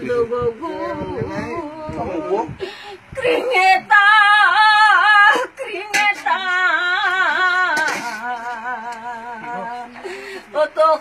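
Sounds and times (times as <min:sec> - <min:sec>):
elderly woman singing: 0:00.0 - 0:11.0.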